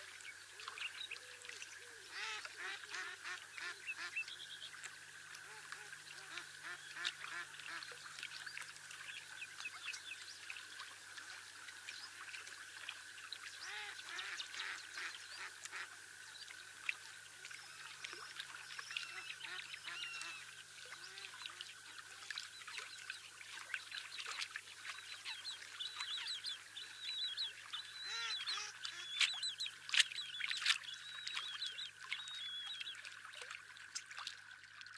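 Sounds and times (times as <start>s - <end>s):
short overlapping bird calls: 0.0s - 33.6s.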